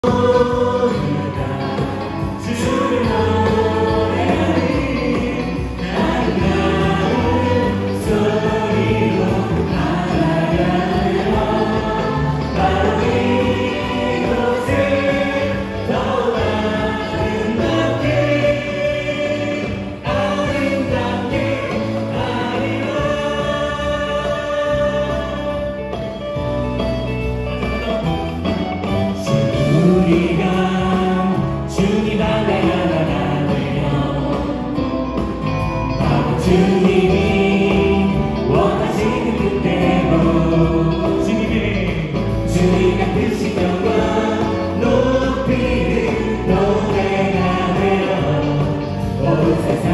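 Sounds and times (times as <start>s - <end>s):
group singing into microphones: 0.0s - 26.5s, 29.5s - 49.9s.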